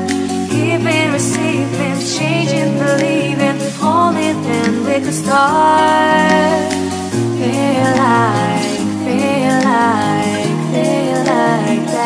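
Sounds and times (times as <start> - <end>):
pop song with singing voice: 0.0 - 12.0.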